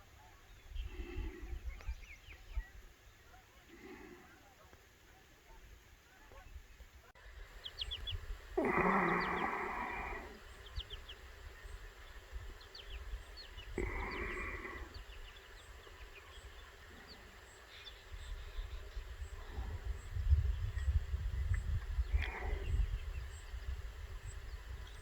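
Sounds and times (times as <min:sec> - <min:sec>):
small birds chirping: 0:00.2 - 0:25.0.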